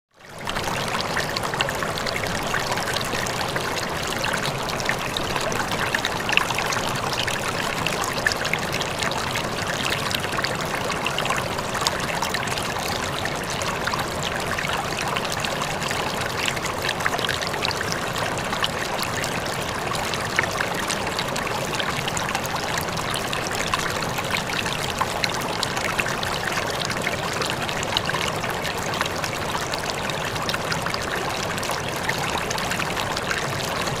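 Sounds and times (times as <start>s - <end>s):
river flowing over rocks: 0.3s - 34.0s.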